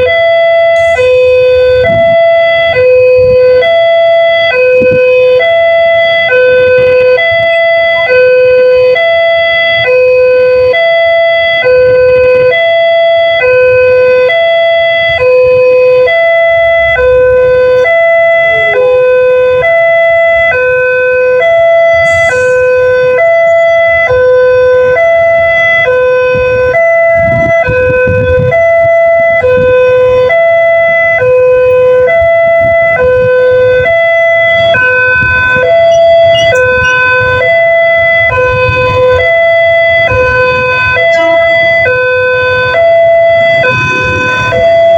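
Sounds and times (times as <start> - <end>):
level crossing two-tone siren: 0.0 - 44.9.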